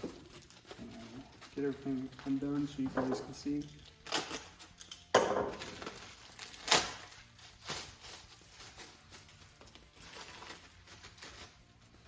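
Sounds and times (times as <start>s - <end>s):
wrapping rustling: 0.0s - 12.0s.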